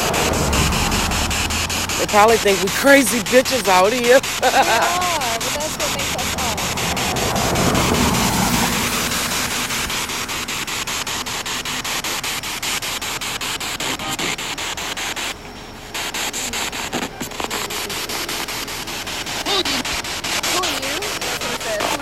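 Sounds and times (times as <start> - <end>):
pulsing radio static: 0.0 - 22.0.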